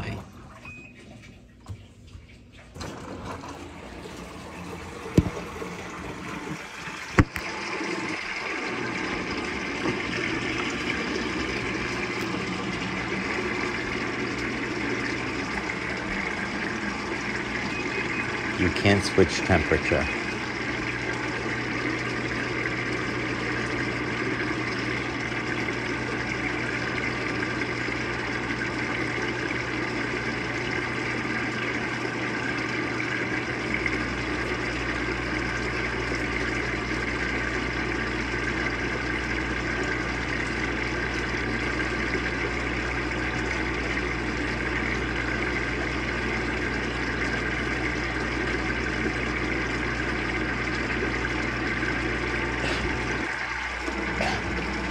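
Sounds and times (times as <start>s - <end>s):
low steady hum: 0.0s - 54.9s
water pouring into tub: 2.5s - 54.9s.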